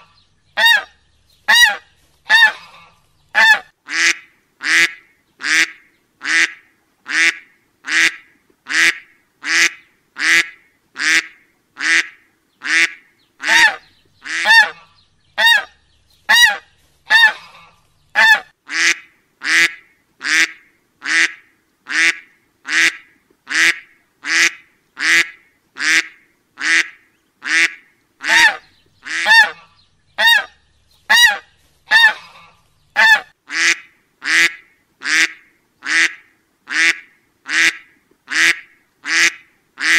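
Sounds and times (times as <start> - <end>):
duck-like honking call: 0.6 - 0.9, 1.5 - 15.7, 16.3 - 30.5, 31.1 - 39.9.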